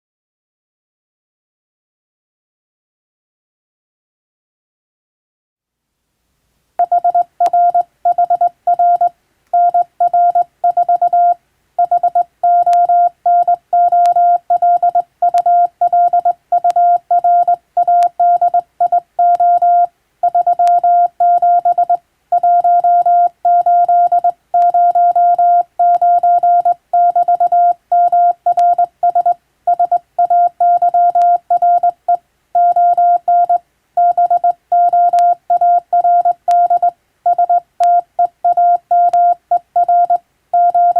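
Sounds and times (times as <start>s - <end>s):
morse code beeps: 6.8s - 40.9s.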